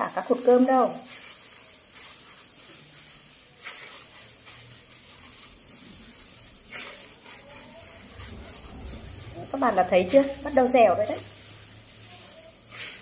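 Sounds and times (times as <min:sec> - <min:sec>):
gloved hands squishing rice: 0:00.0 - 0:13.0
plastic crinkling: 0:00.0 - 0:13.0.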